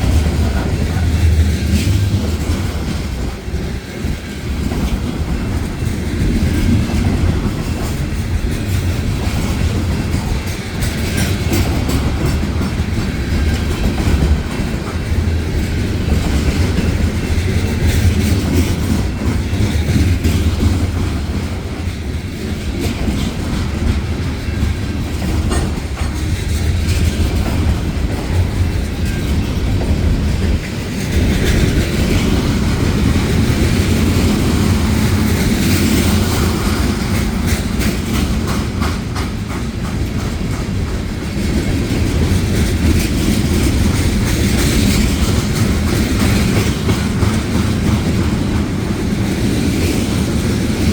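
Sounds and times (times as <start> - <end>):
train rumbling past: 0.0 - 50.9
wheels clacking over rail joints: 0.0 - 50.9.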